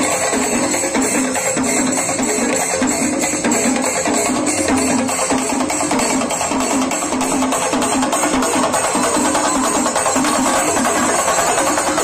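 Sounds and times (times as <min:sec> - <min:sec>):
drum ensemble playing: 0:00.0 - 0:12.0.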